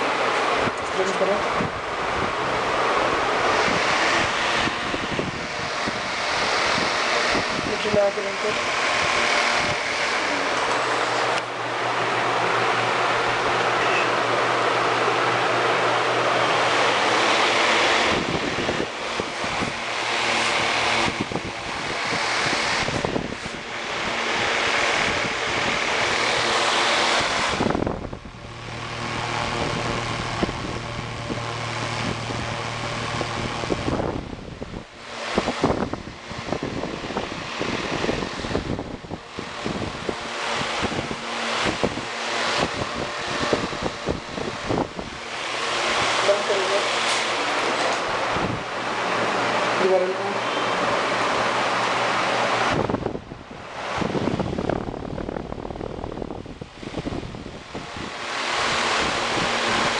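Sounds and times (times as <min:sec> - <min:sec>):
fan airflow rushing over microphone: 0:00.0 - 0:59.9
low motor hum: 0:00.0 - 0:59.9.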